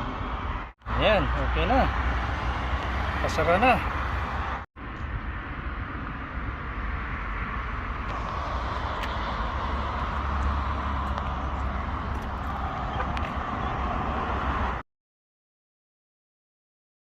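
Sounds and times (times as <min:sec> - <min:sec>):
vehicle rumble: 0:00.0 - 0:14.8.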